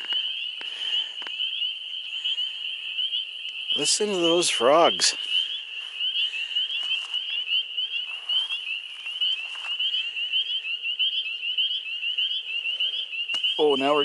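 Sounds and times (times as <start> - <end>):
frogs peeping in chorus: 0.0 - 14.0.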